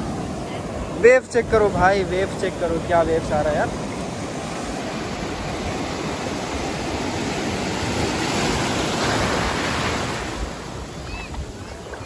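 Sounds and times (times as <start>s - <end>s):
waves breaking on sand: 0.0s - 12.0s.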